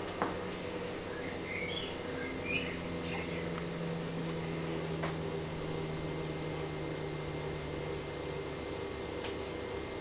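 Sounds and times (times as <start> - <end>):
appliance motor humming: 0.0 - 10.0.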